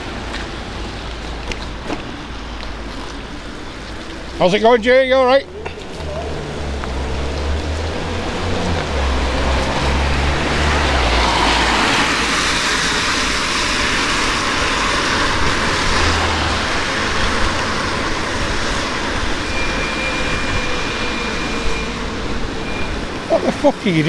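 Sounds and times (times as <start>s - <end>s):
wind and wet road rush: 0.0s - 24.0s.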